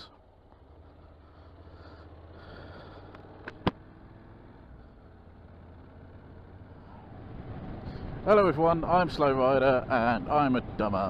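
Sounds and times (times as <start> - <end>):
motorcycle engine humming: 0.0 - 11.0.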